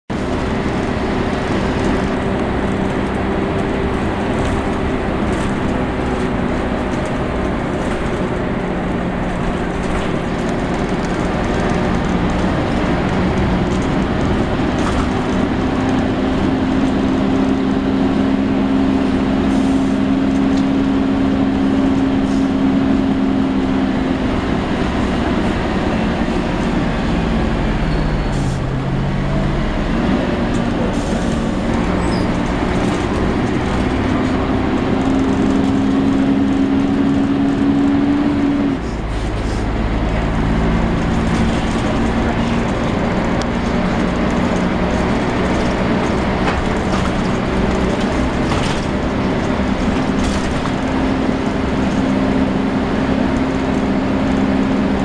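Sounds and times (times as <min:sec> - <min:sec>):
road noise: 0:00.0 - 0:55.0
bus engine whine: 0:00.1 - 0:55.0.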